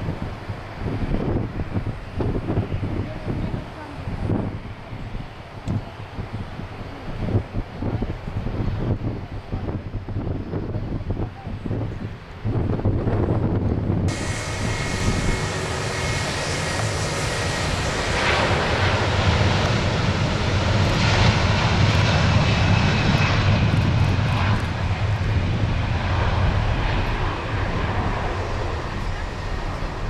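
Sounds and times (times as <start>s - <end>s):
jet airliner roar at takeoff: 0.0s - 30.0s.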